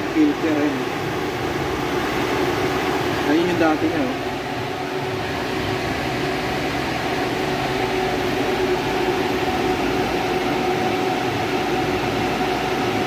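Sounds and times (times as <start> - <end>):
freezer compressor hum: 0.0 - 13.0.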